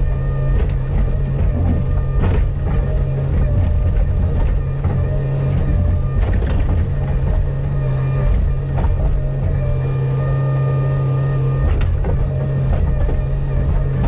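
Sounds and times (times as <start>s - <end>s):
knocks and scrapes: 0.0s - 9.9s, 11.6s - 14.0s
excavator diesel engine running: 0.0s - 14.0s.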